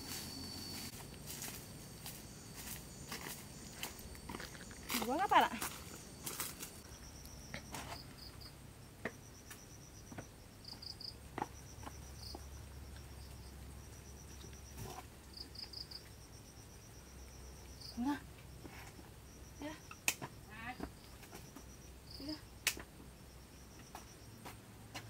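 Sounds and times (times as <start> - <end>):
insects chirping in trills: 0.0 - 25.0.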